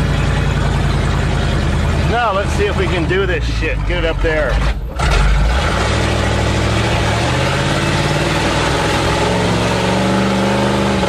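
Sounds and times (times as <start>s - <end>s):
pickup truck engine under load: 0.0s - 11.0s.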